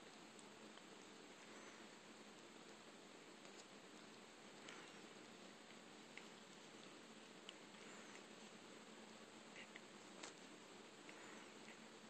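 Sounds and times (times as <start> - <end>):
steady hiss: 0.0 - 12.0
cat licking its fur: 0.1 - 12.0.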